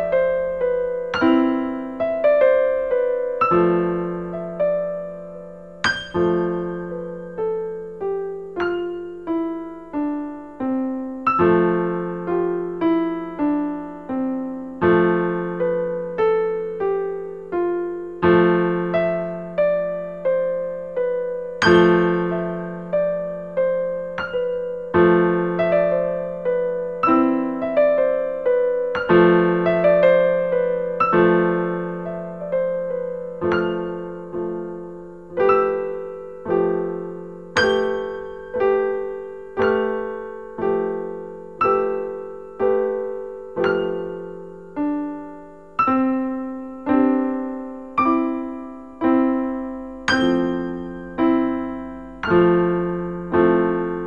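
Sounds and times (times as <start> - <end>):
slow piano melody: 0.0 - 54.0.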